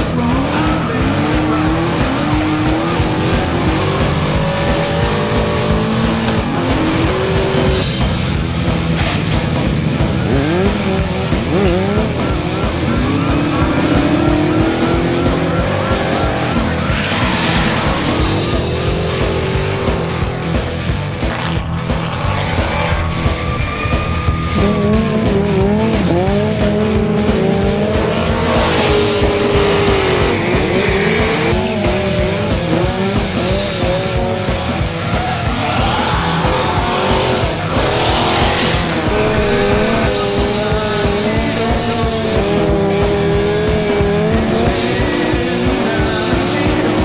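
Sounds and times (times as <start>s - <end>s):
engines revving hard: 0.0s - 47.0s
music with steady beat: 0.0s - 47.0s.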